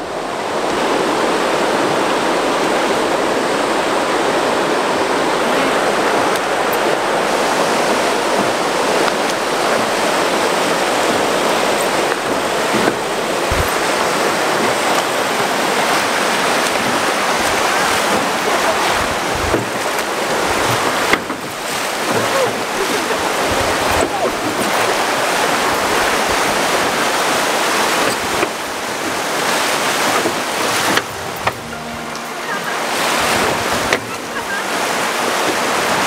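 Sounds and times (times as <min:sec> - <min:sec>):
whitewater rapids roaring: 0:00.0 - 0:36.0.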